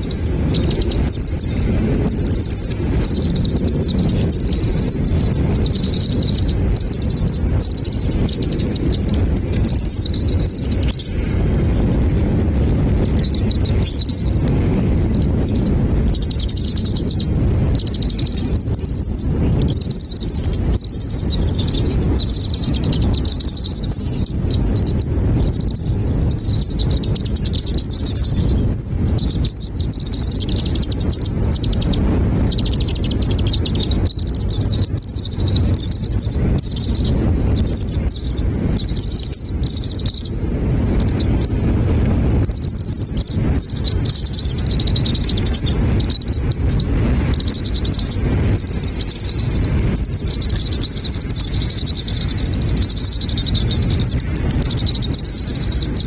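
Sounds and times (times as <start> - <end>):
birds chirping: 0.0 - 56.0
low rumble: 0.0 - 56.0.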